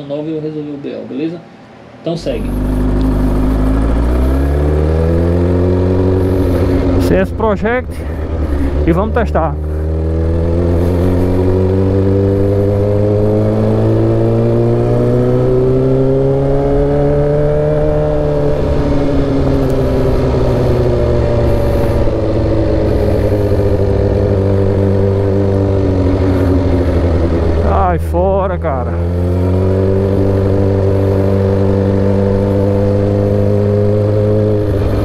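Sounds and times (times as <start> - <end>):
motorcycle engine running: 2.2 - 35.0.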